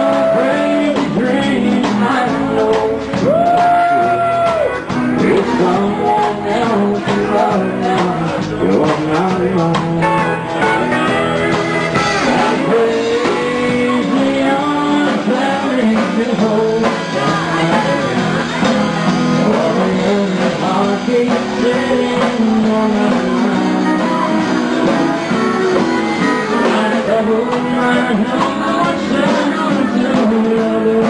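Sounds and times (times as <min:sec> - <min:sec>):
rock and roll music with singer: 0:00.0 - 0:31.0.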